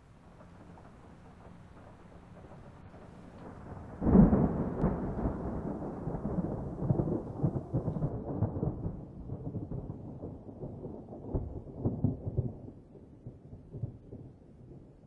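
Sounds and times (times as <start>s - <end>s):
thunder boom and rumble: 0.1s - 14.9s.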